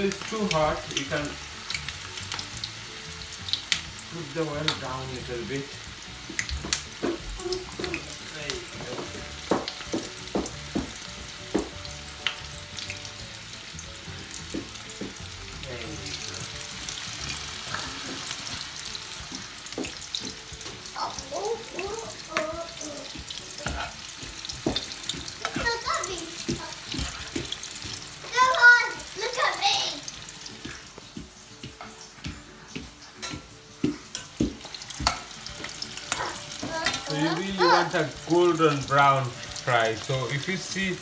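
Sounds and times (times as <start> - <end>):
batter sizzling in hot oil: 0.0 - 41.0.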